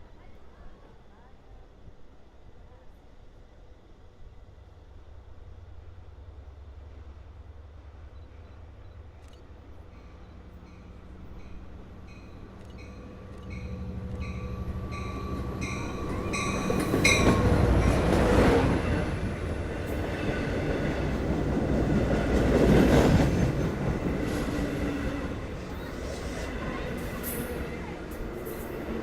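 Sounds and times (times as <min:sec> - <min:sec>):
diesel train passing: 0:03.6 - 0:29.0.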